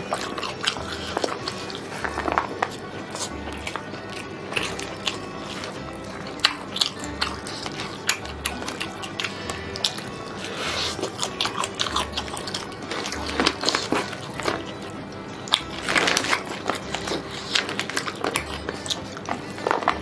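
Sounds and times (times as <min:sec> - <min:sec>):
background music with bass: 0:00.0 - 0:20.0
crunching and chewing crispy food: 0:00.0 - 0:20.0.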